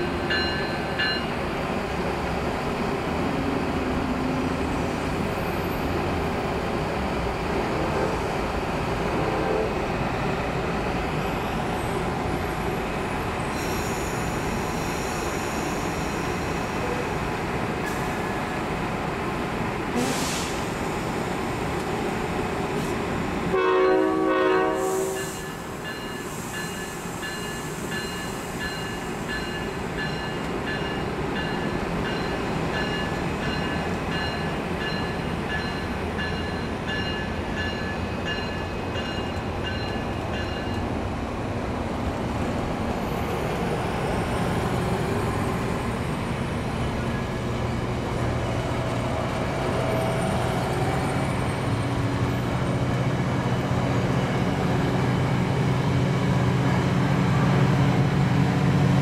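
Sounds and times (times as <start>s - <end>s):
diesel locomotive engine: 0.0s - 59.0s
trains rolling on rails: 0.0s - 59.0s.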